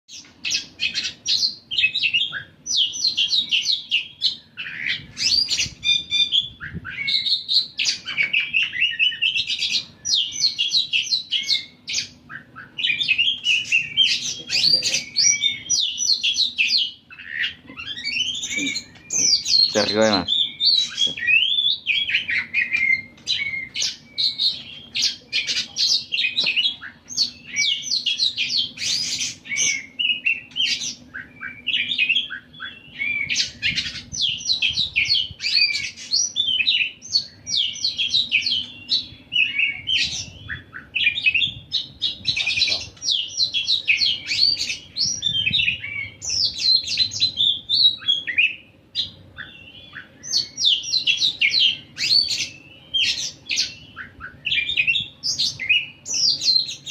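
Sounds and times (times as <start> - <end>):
songbird chirps and trills: 0.1 - 56.9.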